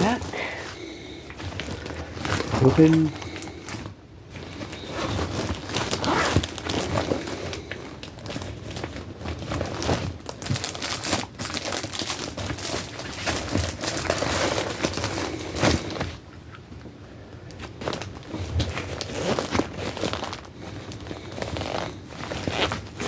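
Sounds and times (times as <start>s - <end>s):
gear rustling and crinkling: 0.0s - 23.0s.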